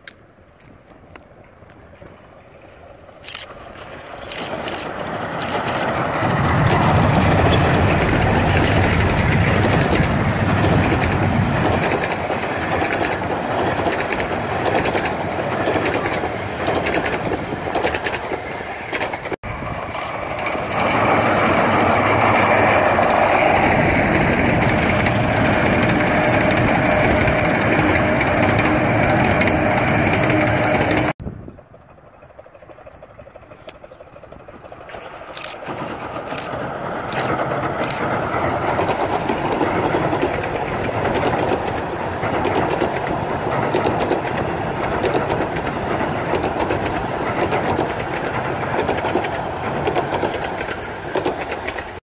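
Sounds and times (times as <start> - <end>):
distant train: 0.0 - 52.0
train wheels clattering on rails: 0.0 - 52.0.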